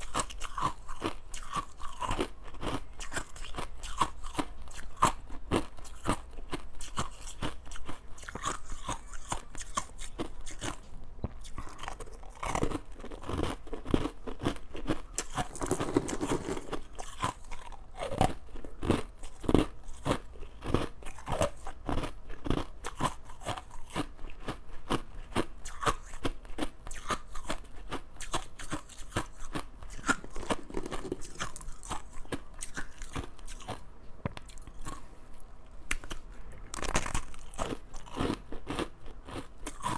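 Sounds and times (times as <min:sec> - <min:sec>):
crushed ice being chewed: 0:00.0 - 0:33.8, 0:34.4 - 0:39.9.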